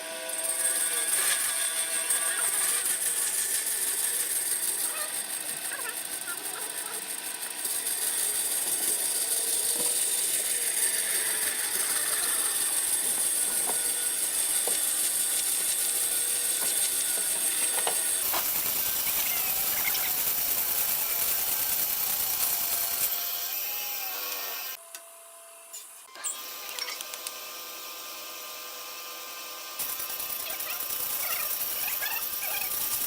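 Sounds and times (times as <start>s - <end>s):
woodworking power tool hissing: 0.0s - 24.8s, 25.7s - 33.0s.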